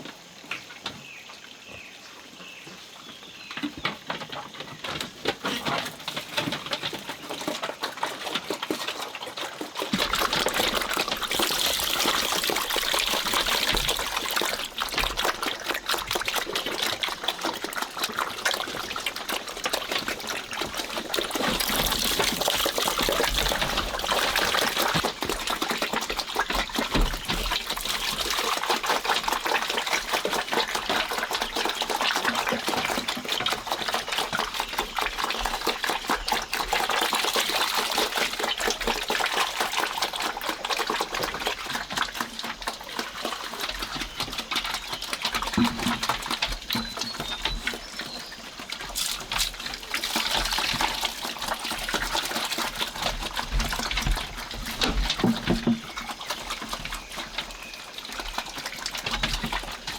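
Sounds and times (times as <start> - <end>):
stream water running and splashing: 0.0 - 59.9.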